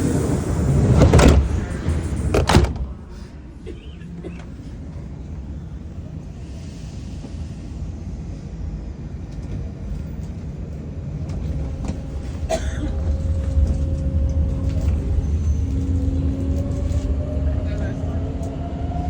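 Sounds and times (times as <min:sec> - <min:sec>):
train cabin rumbling: 0:00.0 - 0:19.0.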